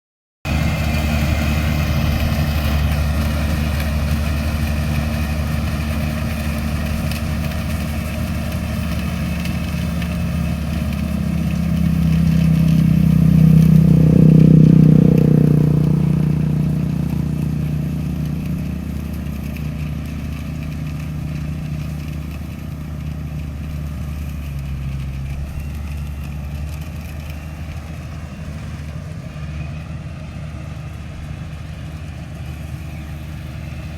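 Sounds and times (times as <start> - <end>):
combine harvester engine running: 0.5 - 33.9.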